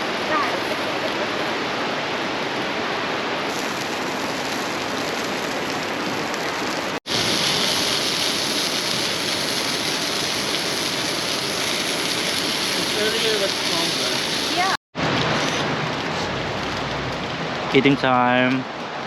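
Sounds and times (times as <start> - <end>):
steady rushing hiss: 3.4 - 19.0.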